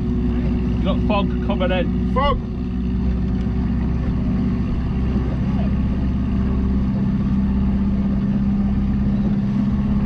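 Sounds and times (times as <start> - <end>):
motorboat engine running: 0.0 - 10.0.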